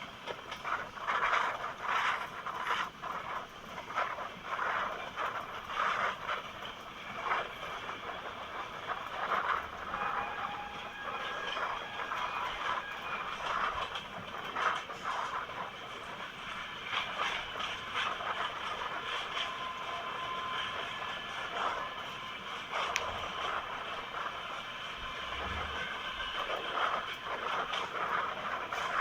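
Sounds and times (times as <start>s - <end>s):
train running noise: 0.0s - 29.0s
train wheels clattering on track: 0.0s - 29.0s.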